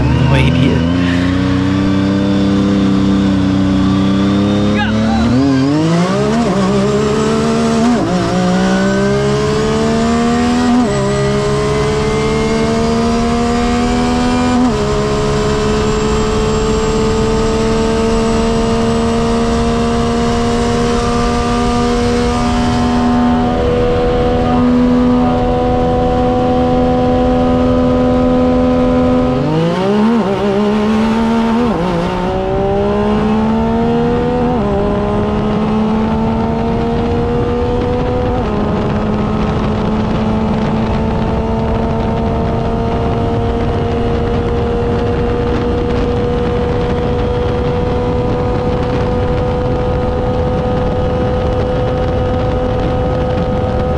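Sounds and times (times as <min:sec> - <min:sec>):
engine at full throttle shifting gears: 0:00.0 - 0:53.9.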